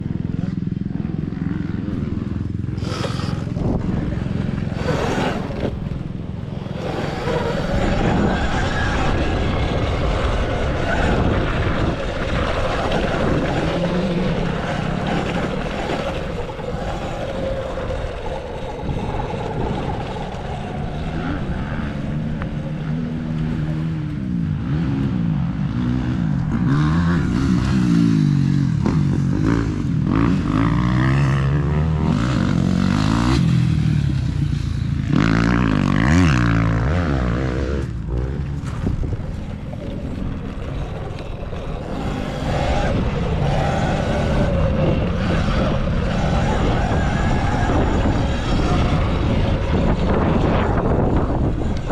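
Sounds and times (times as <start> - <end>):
electric motorbike motor whine: 0.0 - 25.1, 28.7 - 51.9
wind rumble on microphone: 0.0 - 51.9.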